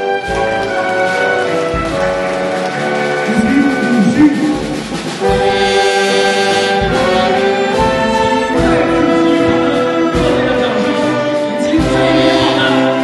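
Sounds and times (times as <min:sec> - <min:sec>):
orchestra playing march: 0:00.0 - 0:13.0.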